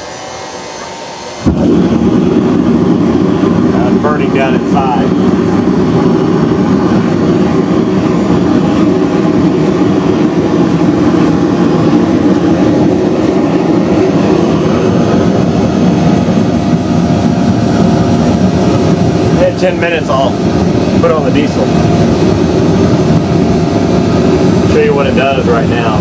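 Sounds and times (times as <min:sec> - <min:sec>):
faint steady whine: 0:00.0 - 0:26.0
furnace burner roaring: 0:00.0 - 0:26.0.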